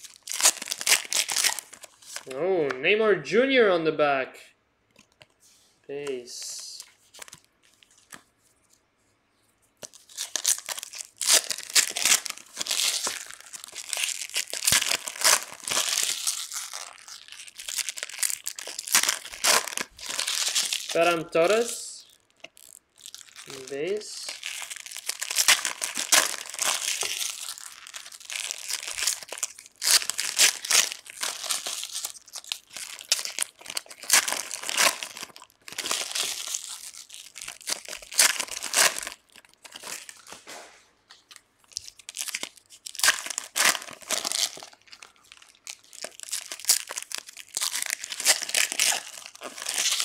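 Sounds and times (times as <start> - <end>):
foil wrappers crinkling and tearing: 0.0 - 2.3, 9.8 - 40.6, 41.2 - 50.0.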